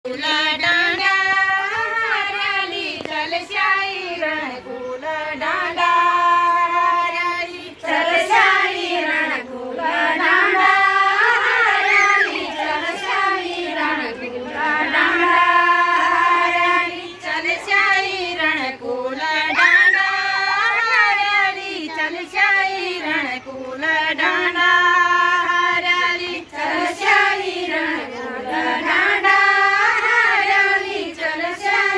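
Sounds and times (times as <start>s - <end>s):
women singing folk song: 0.1s - 31.9s.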